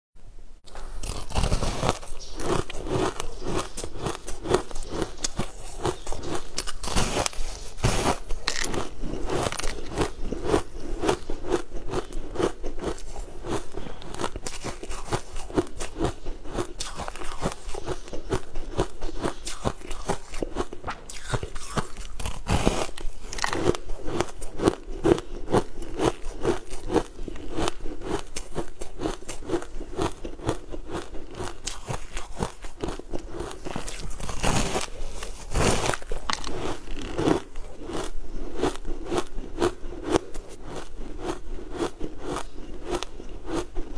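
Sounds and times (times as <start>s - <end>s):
chewing crisp cookie: 0.7s - 43.9s.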